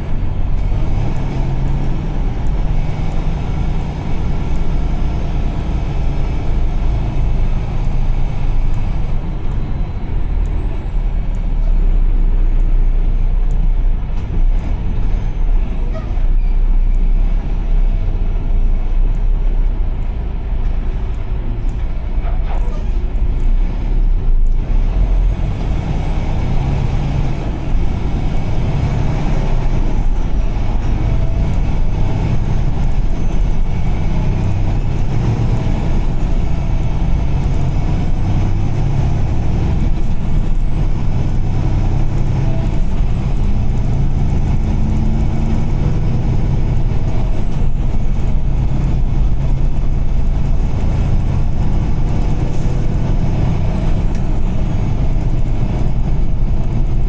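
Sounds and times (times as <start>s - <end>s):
vehicle road rumble: 0.0s - 57.0s.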